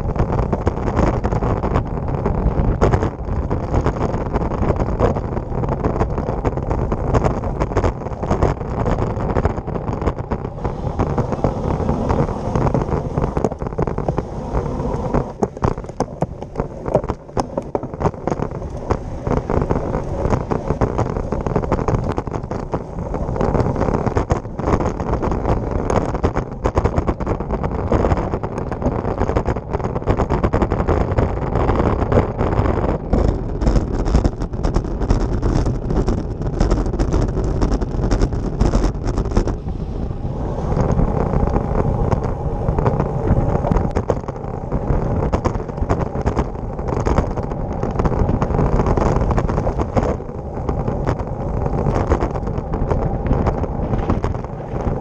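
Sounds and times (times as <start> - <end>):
bike rattling over joints: 0.0 - 55.0
wind on microphone: 0.0 - 55.0
tyres rolling on concrete: 0.1 - 33.1, 35.4 - 55.0.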